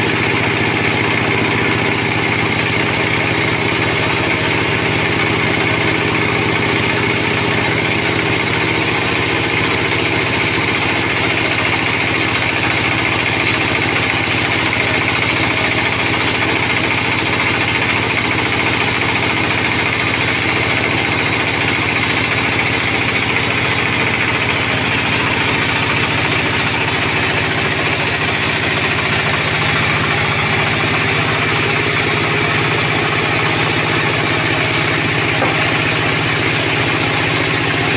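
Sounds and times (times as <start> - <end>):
band saw cutting wood: 0.0 - 37.9.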